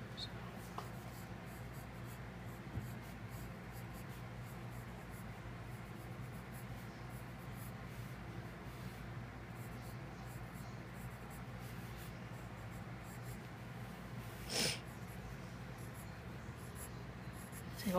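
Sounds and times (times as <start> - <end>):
low steady hum: 0.0 - 17.9
pencil scratching on paper: 0.6 - 17.9.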